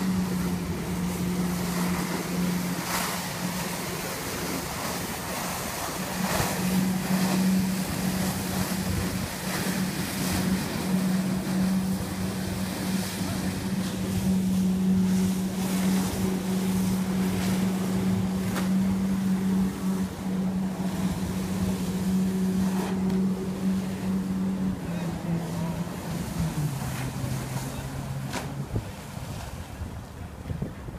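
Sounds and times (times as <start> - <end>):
marine engine running: 0.0 - 30.9
water rushing: 0.0 - 30.9
wind on microphone: 0.0 - 30.9.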